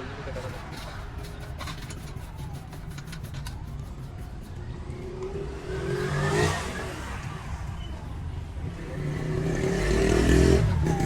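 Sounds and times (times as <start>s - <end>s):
vehicle engine rumbling and accelerating: 0.0s - 11.0s.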